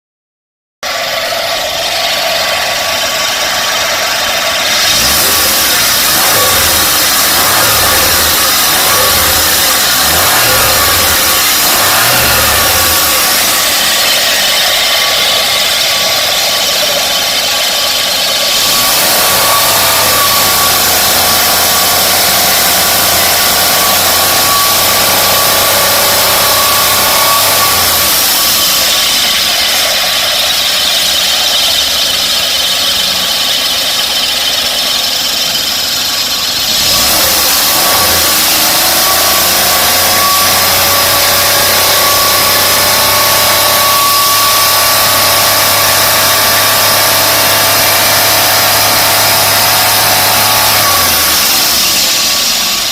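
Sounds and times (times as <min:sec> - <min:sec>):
car engine idling: 0:00.8 - 0:52.9.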